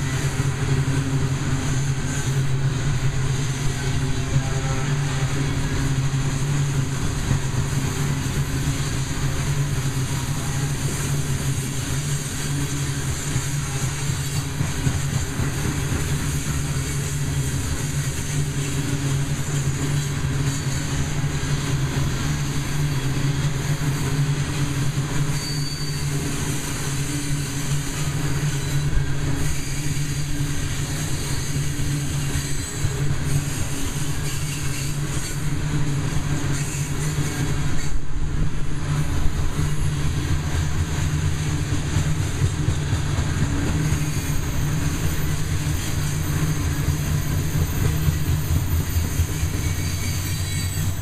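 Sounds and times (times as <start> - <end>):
freight train wheels rolling on rails: 0.0 - 51.0.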